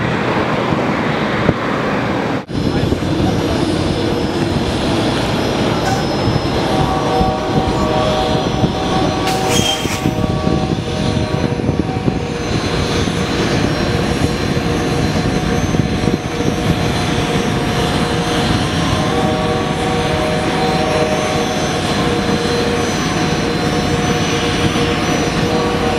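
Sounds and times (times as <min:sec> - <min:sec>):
jet engine roar: 0:00.0 - 0:25.9
jet turbine whine: 0:00.0 - 0:25.9.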